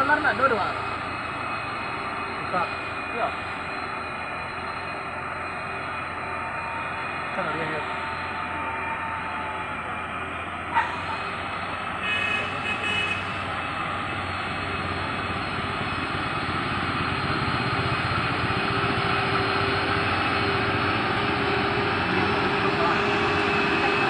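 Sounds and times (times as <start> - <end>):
truck diesel engine labouring: 0.0 - 24.0.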